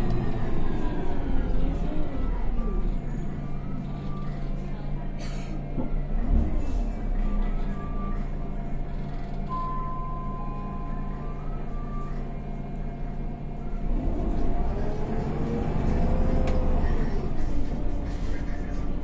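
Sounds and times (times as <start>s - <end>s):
bus diesel engine idling and revving: 0.0s - 19.0s.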